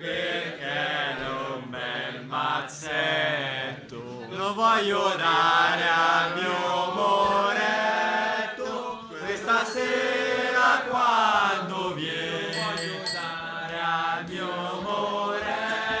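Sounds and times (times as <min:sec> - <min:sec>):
voices chanting together: 0:00.0 - 0:16.0.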